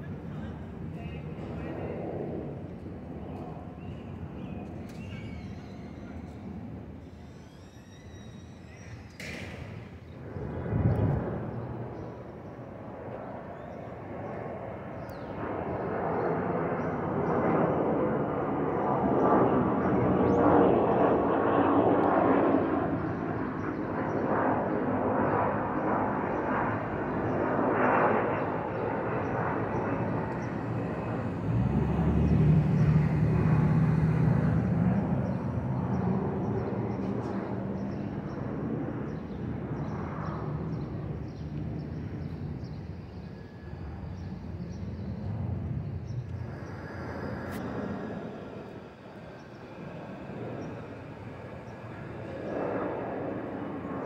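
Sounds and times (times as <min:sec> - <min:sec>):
jet airliner passing overhead: 0:00.0 - 0:54.0.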